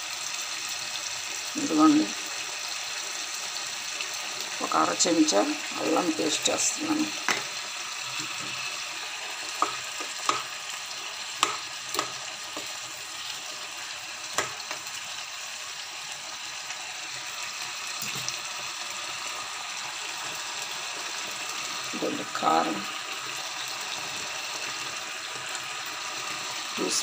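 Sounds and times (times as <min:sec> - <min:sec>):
masala sizzling in oil: 0:00.0 - 0:27.0.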